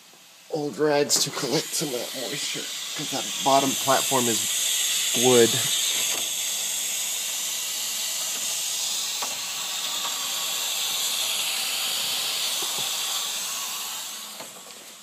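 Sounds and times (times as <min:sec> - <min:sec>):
pressurised water hissing from spigot: 0:00.5 - 0:14.4.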